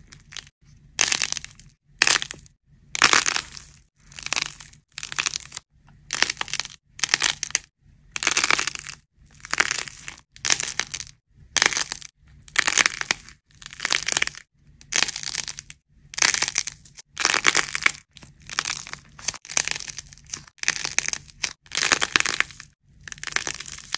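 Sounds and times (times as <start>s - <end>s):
dried clay crackling and crunching: 0.0s - 23.9s.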